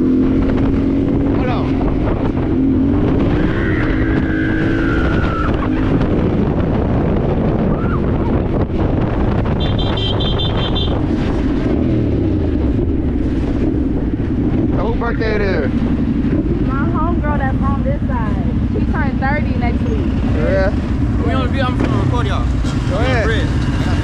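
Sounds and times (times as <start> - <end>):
dirt bike engine revving: 0.0 - 24.0
wind noise on microphone: 0.0 - 24.0.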